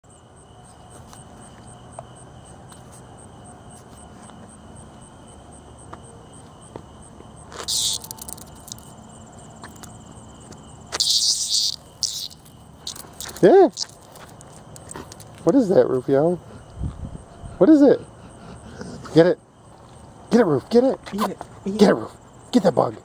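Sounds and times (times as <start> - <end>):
cicada buzz: 0.0 - 23.0
insects chirping: 0.0 - 23.0.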